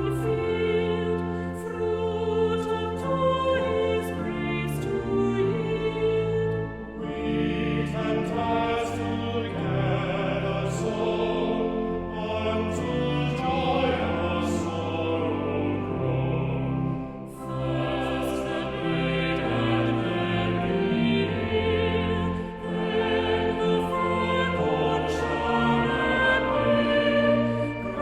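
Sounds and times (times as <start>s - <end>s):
choir singing sacred music: 0.0s - 28.0s
sustained low accompaniment: 0.0s - 28.0s.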